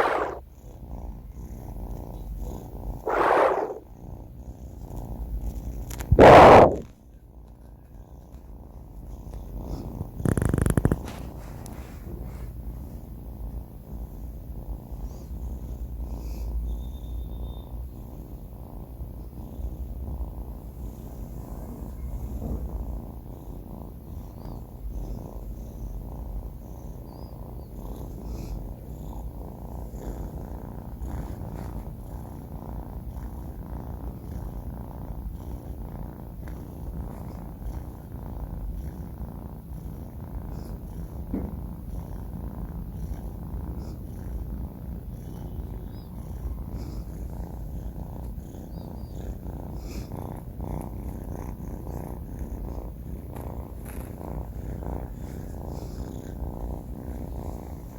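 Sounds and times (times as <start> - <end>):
kitten purring: 0.0 - 57.9.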